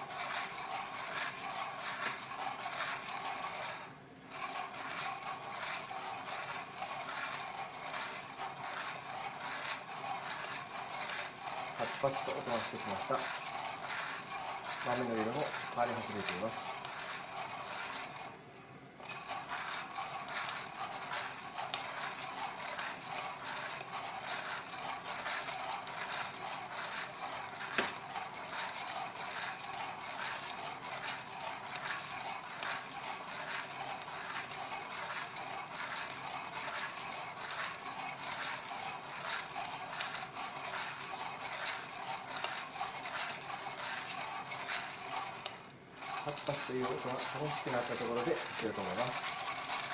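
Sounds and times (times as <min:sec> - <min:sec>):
coffee beans rattling in roaster: 0:00.0 - 0:18.4, 0:19.0 - 0:49.9.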